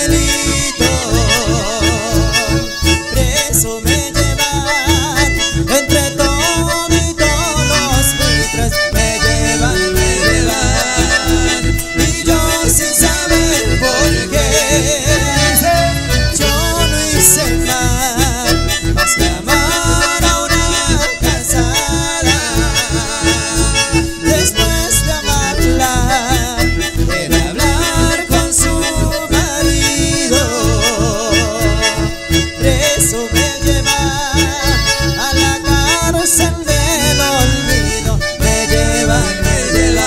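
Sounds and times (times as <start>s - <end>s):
accordion melody: 0.0s - 40.0s
live band playing: 0.0s - 40.0s.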